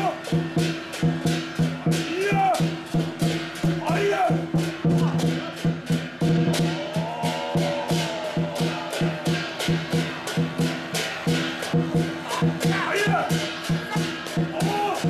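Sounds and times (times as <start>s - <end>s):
fast percussion beat: 0.0s - 15.0s.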